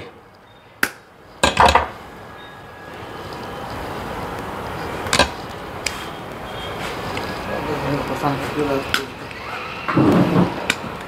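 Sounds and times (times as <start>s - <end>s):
faint steady background noise: 0.0s - 11.0s.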